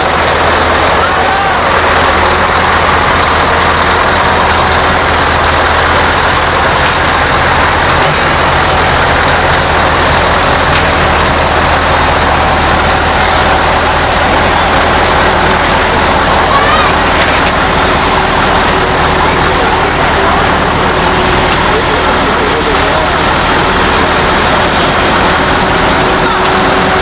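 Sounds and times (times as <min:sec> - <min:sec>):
tractor engine at full power: 0:00.0 - 0:27.0.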